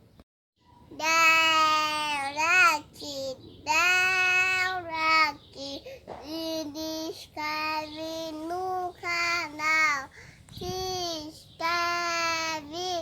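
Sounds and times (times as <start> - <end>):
child singing long notes: 0.9 - 13.0.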